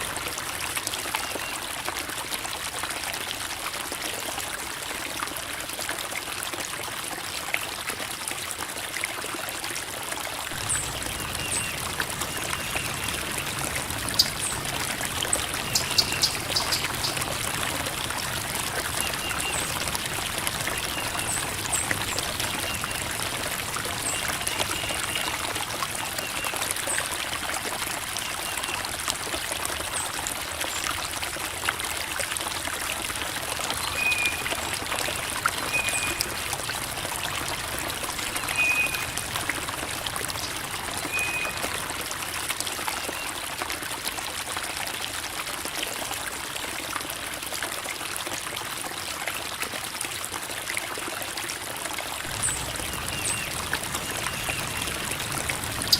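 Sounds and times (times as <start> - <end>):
creek water babbling over rocks: 0.0 - 55.9.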